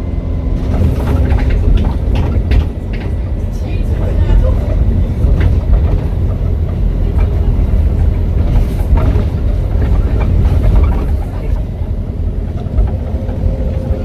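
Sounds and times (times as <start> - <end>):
bus engine rumble: 0.0 - 14.0
rattles and clicks: 0.6 - 14.0.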